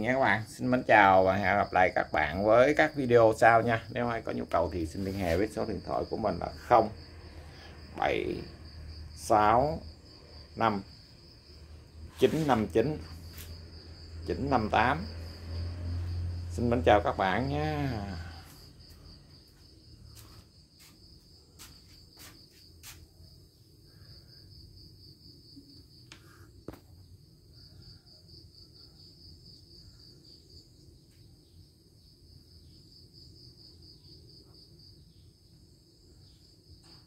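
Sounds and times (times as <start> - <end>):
cricket chirping: 0.0 - 37.0.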